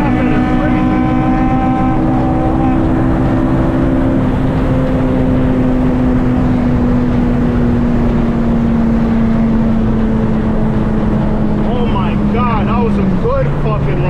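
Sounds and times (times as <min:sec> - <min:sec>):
car engine at high speed: 0:00.0 - 0:14.0
road noise: 0:00.0 - 0:14.0
wind noise: 0:00.0 - 0:14.0.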